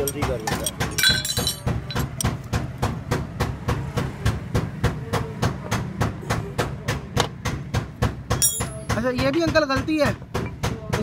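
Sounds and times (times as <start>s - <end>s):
rapid mechanical knocking: 0.0s - 11.0s.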